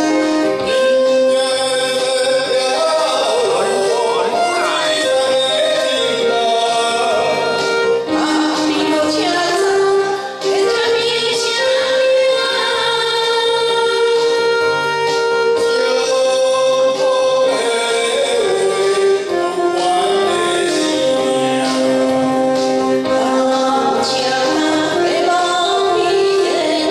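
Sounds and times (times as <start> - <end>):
man and woman singing duet: 0.0 - 14.3, 15.6 - 26.9
backing track: 0.0 - 26.9.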